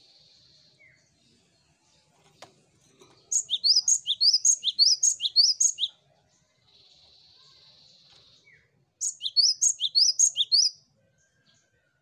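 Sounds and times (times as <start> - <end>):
bird singing repeated phrases: 0.0 - 12.0.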